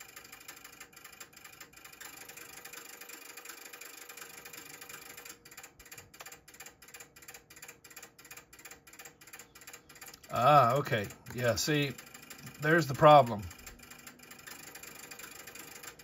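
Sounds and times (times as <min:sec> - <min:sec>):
relays clicking rapidly: 0:00.0 - 0:16.0.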